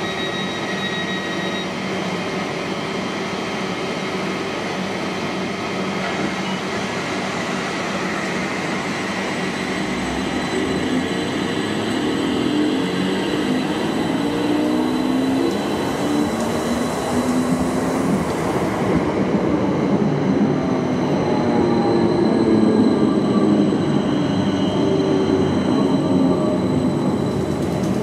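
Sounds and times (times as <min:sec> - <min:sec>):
train wheels rumbling on rail: 0:01.7 - 0:28.0.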